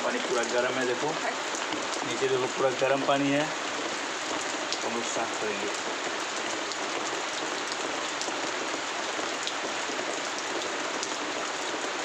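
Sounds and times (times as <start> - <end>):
falling water hiss and patter: 0.0 - 12.0.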